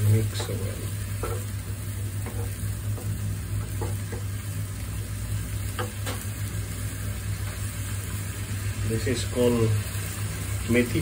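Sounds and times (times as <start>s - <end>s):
masala sizzling in a pan: 0.0s - 11.0s
steady low hum: 0.0s - 11.0s.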